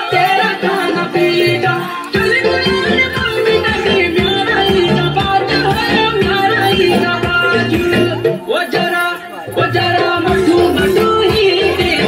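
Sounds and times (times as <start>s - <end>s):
folk dance song: 0.0s - 12.0s.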